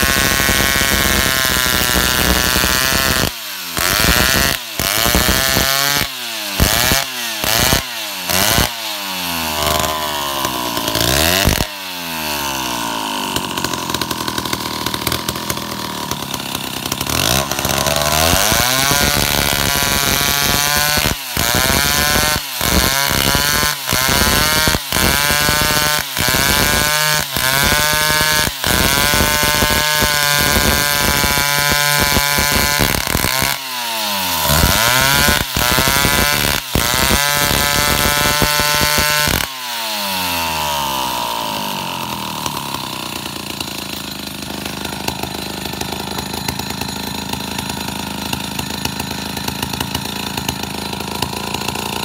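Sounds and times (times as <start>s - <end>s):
chainsaw cutting a log: 0.0s - 52.0s.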